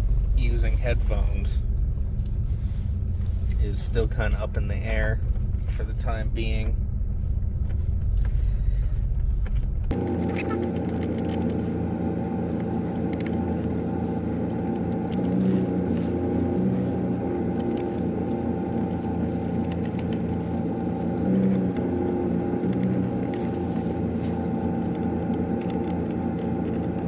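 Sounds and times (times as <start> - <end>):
car engine humming: 0.0 - 27.0.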